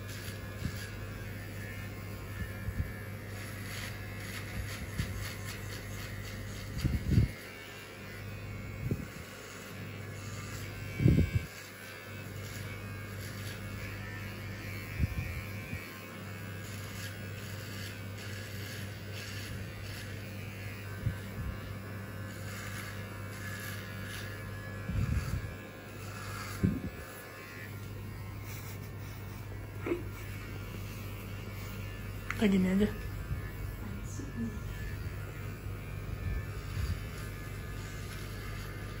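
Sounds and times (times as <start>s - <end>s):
hair clippers buzzing: 0.0s - 39.0s.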